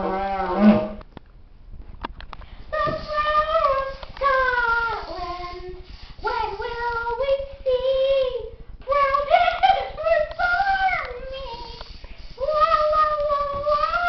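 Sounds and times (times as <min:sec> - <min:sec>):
girl singing wordlessly: 0:02.7 - 0:14.0.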